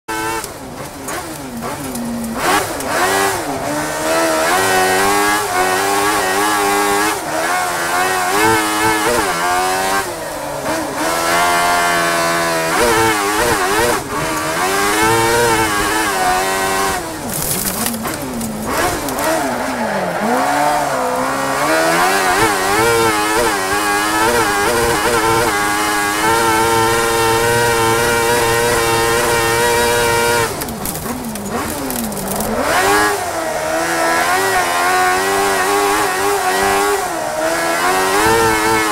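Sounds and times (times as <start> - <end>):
racing car engine revving: 0.1 - 38.9.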